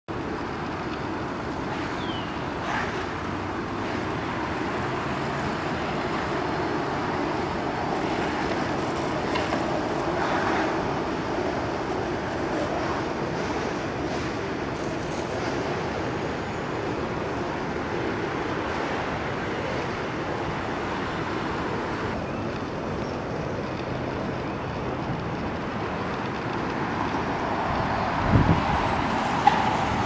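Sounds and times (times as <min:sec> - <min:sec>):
rushing outdoor background noise: 0:00.1 - 0:30.0.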